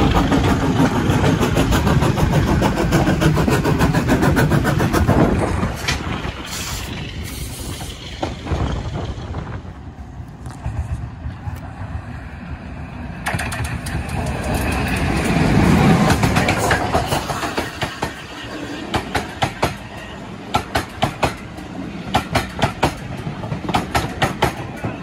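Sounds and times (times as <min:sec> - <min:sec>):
train wheels clicking over rail joints: 0:00.0 - 0:09.6, 0:13.1 - 0:25.0
locomotive rumble: 0:00.0 - 0:25.0.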